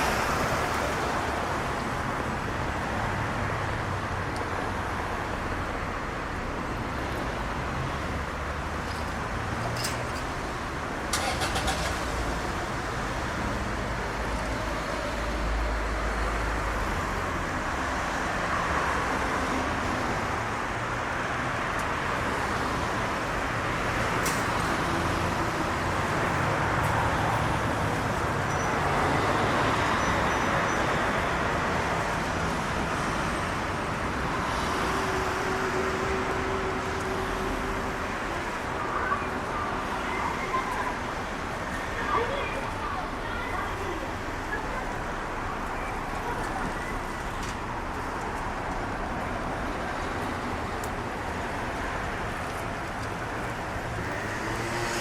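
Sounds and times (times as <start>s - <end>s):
road traffic rushing: 0.0s - 55.0s.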